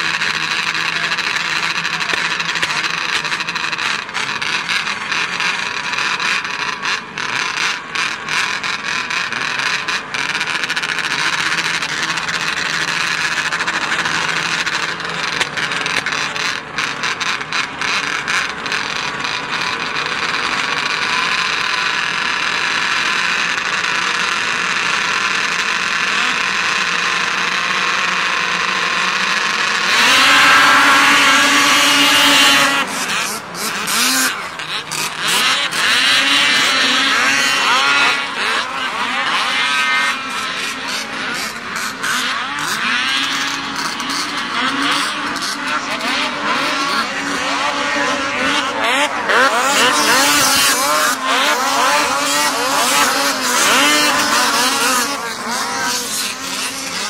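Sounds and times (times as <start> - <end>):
snowmobiles idling and revving: 0.0 - 57.0
snowmobiles launching at full throttle: 0.0 - 57.0.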